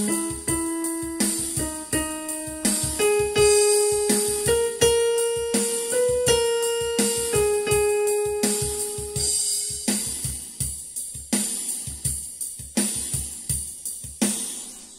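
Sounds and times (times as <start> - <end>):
keyboard accompaniment: 0.0 - 13.3
drum kit beat: 0.0 - 14.9.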